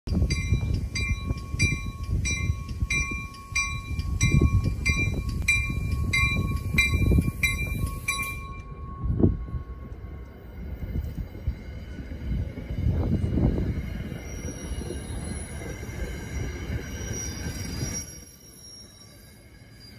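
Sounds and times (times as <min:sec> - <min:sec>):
railroad warning bell ringing: 0:00.1 - 0:19.9
train rumbling: 0:00.1 - 0:19.9.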